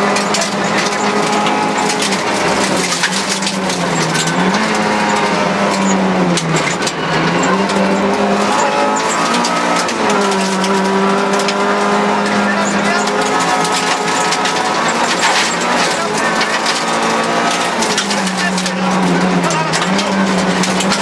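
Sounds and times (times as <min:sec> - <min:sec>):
gravel pinging against car: 0:00.0 - 0:21.0
rally car engine at high revs: 0:00.0 - 0:21.0.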